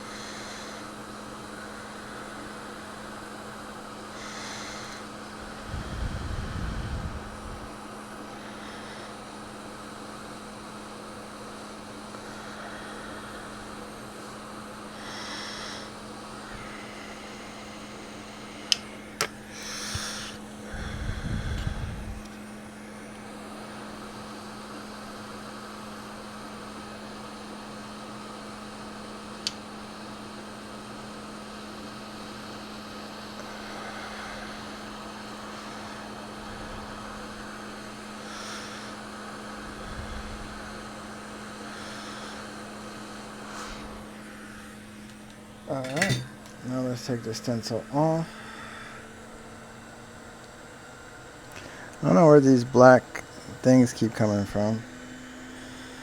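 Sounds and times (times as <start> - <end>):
hot-air station hissing and humming: 0.0 - 56.0.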